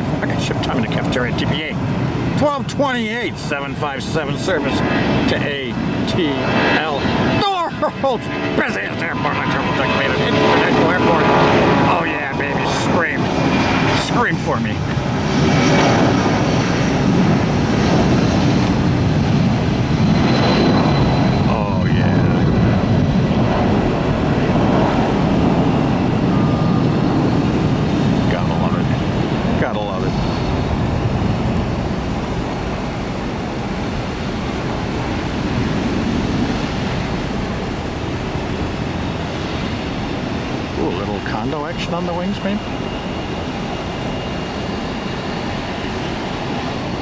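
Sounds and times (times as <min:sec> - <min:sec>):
jet engines rumbling at takeoff: 0:00.0 - 0:47.0.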